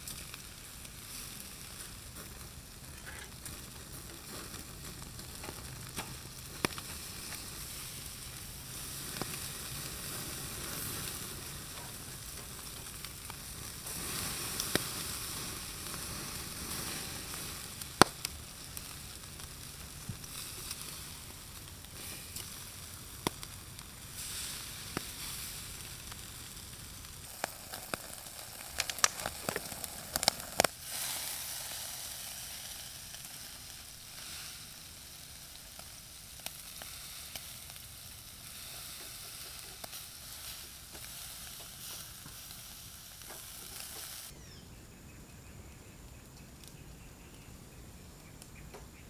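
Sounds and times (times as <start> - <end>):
meat sizzling on a grill: 0.0 - 44.5.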